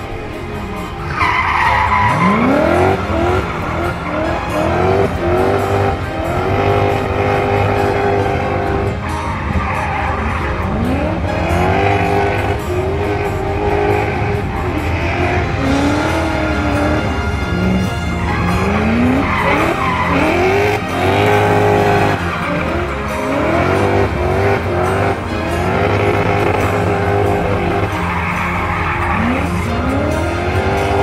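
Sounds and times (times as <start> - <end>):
car engine revving: 0.0 - 31.0
tyres squealing on asphalt: 0.0 - 31.0.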